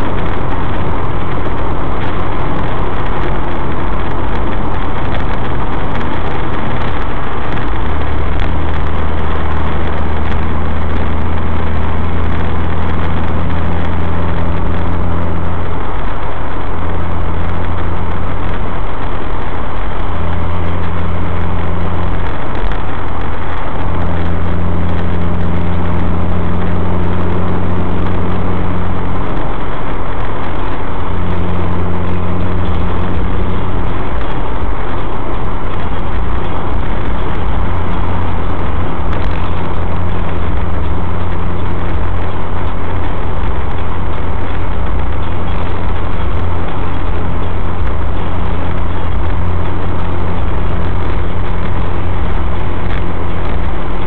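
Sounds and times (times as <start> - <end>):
car engine drone: 0.0 - 54.0
tyre and road noise: 0.0 - 54.0.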